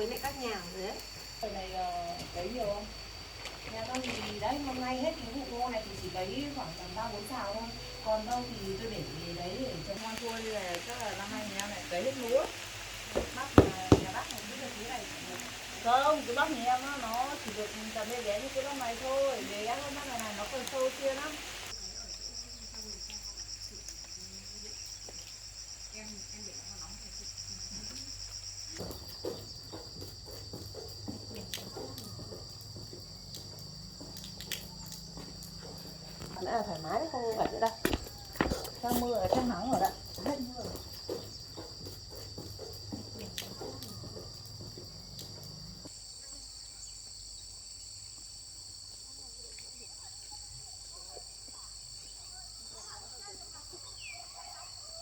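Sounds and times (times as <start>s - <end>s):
voices murmuring: 0.0s - 25.3s, 25.9s - 46.6s, 49.8s - 55.0s
insects trilling: 0.0s - 55.0s.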